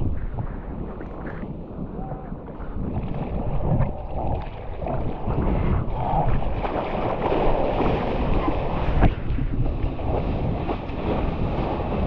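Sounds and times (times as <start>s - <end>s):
ocean surf and water sloshing: 0.0s - 12.0s
wind buffeting microphone: 0.0s - 12.0s.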